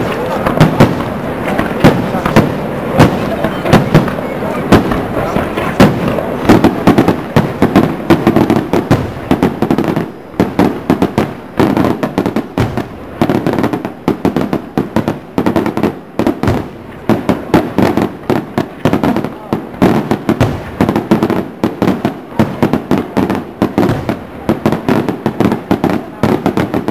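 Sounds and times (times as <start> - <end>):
fireworks bangs and crackling: 0.0 - 26.9.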